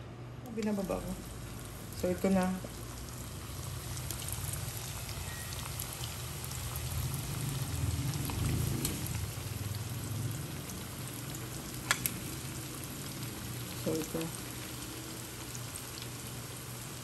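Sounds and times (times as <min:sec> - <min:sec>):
crackling pops of frying: 0:00.4 - 0:09.7, 0:10.7 - 0:17.0
chicken deep-frying in oil: 0:00.5 - 0:17.0.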